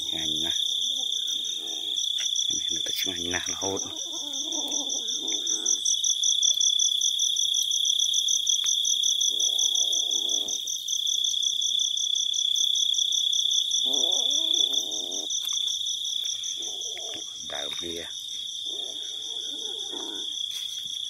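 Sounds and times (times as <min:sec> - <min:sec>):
insect high trill: 0:00.0 - 0:21.0
insect pulsed chirp: 0:00.0 - 0:21.0.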